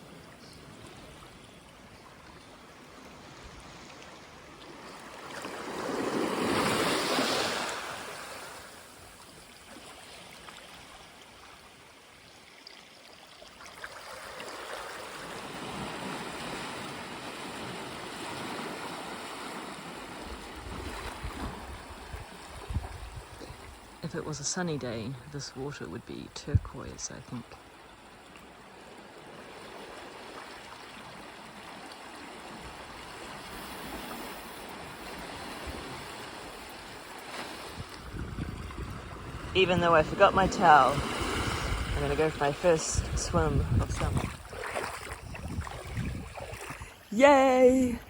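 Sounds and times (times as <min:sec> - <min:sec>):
small waves washing on sand: 0:00.0 - 0:26.0, 0:26.6 - 0:48.0.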